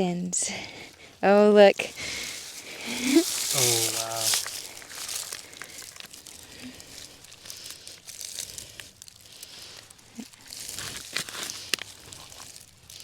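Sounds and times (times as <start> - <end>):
plant matter rustling and tearing: 1.7 - 13.0
soil crumbling and scraping: 2.0 - 13.0.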